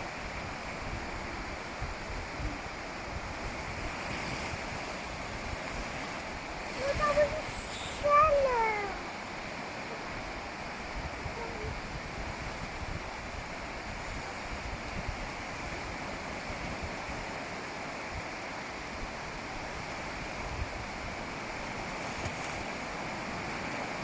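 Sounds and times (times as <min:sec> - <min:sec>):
ocean waves breaking: 0:00.0 - 0:24.0
wind buffeting microphone: 0:00.0 - 0:24.0.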